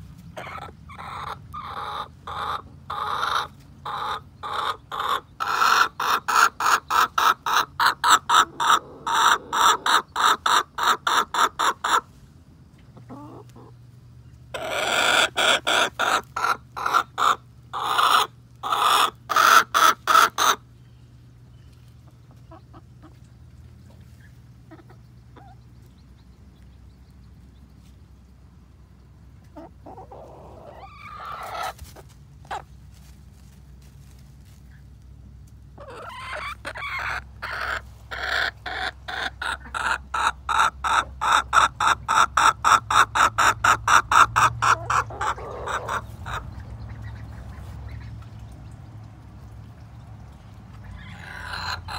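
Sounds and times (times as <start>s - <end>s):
hen clucking: 0.0s - 12.2s, 12.8s - 13.9s, 14.5s - 20.7s, 21.7s - 26.6s, 29.4s - 33.0s, 35.7s - 49.2s, 50.3s - 51.9s.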